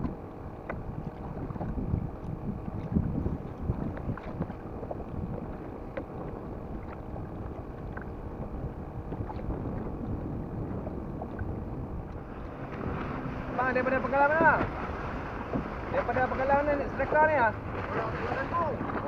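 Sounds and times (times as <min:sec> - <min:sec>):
water lapping at kayak hull: 0:00.0 - 0:19.0
wind rumbling on microphone: 0:00.0 - 0:19.0.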